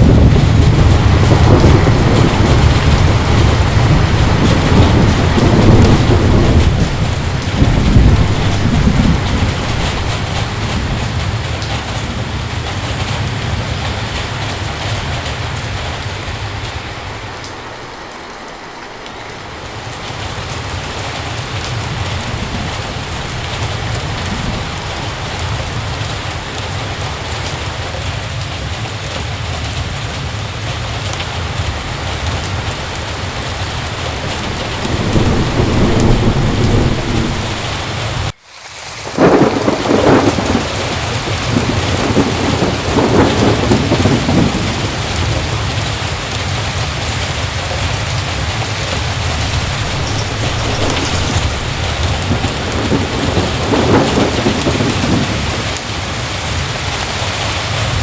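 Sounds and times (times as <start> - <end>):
rolling thunder: 0.0 - 38.4, 39.0 - 58.0
heavy rain: 0.0 - 58.0.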